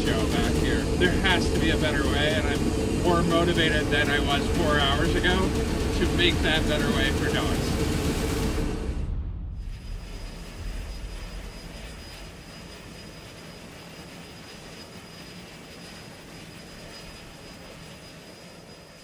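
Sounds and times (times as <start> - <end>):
faint high whine: 0.0 - 8.7, 9.4 - 19.0
jet engines droning in flight: 0.0 - 19.0.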